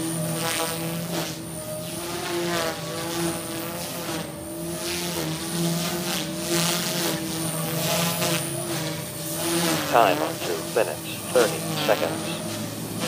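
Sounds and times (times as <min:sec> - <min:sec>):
high motor whine: 0:00.0 - 0:13.0
rc helicopter buzzing hum: 0:00.0 - 0:13.0.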